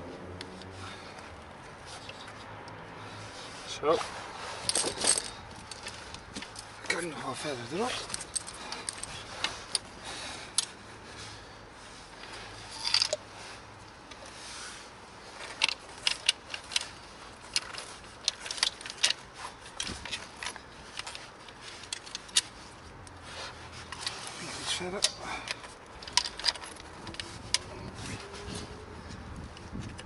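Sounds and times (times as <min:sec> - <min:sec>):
snow chain links clinking: 0:03.6 - 0:11.3, 0:12.2 - 0:30.0.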